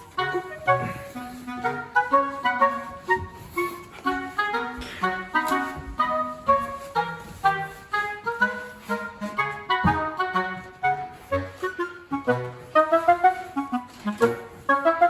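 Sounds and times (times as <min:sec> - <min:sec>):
bouncy woodwind melody: 0:00.0 - 0:15.0.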